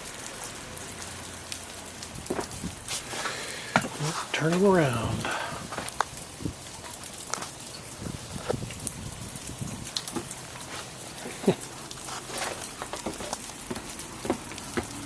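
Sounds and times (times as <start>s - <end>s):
sleet pattering on surfaces: 1.9s - 15.0s.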